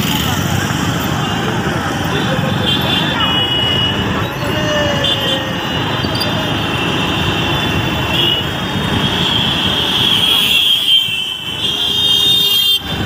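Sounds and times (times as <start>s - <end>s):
people's voices in street: 0.0s - 13.0s
road traffic noise: 0.0s - 13.0s.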